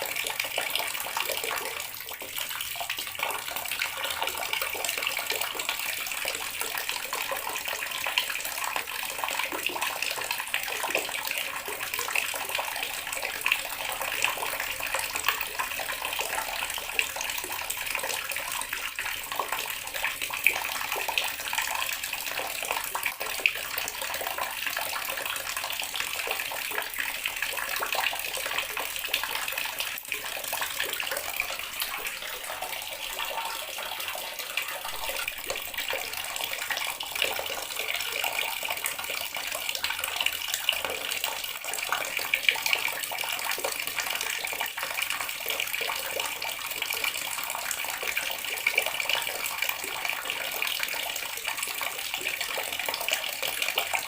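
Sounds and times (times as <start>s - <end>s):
water running from a tap: 0.0s - 54.0s.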